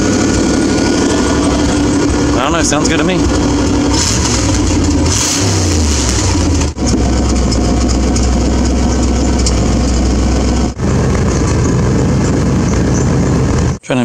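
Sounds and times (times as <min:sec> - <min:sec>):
engine revving and idling: 0:00.0 - 0:13.8.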